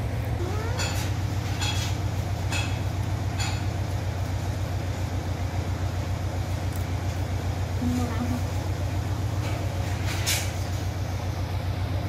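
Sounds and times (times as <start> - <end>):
low mechanical hum pulsing: 0.0 - 12.0.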